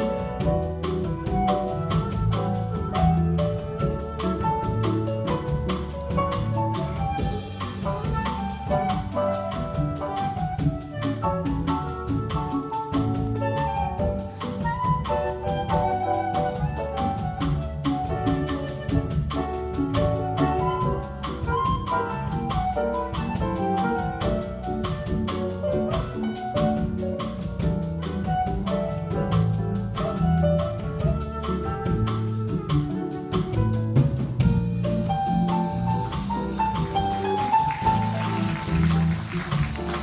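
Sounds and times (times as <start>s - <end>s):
drum kit cymbal beat: 0.0s - 40.0s
small jazz band playing: 0.0s - 40.0s.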